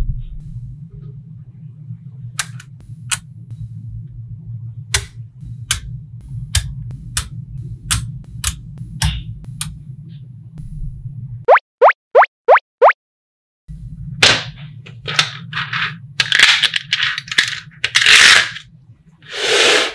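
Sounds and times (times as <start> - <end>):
steady low hum: 0.0 - 11.5, 13.7 - 19.9.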